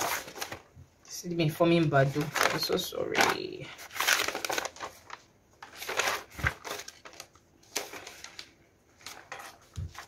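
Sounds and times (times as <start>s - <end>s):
notebook pages turning: 0.0s - 0.7s, 2.2s - 10.0s.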